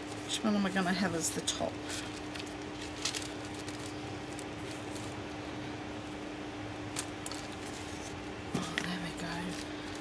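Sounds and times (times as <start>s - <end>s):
paper envelopes rustling: 0.0s - 5.4s, 7.0s - 10.0s
steady low hum: 0.0s - 10.0s.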